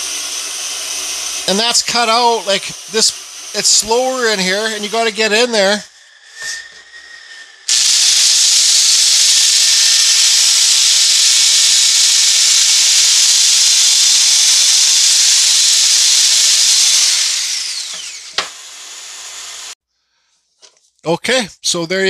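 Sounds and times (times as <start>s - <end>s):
sanding disc on wood: 0.0s - 5.8s, 7.7s - 19.8s
drill motor whine: 0.0s - 19.8s.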